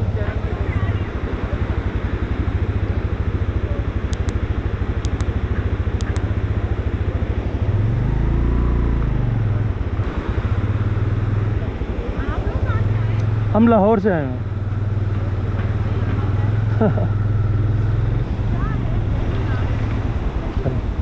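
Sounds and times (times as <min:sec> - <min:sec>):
motorcycle engine running and revving: 0:00.0 - 0:21.0.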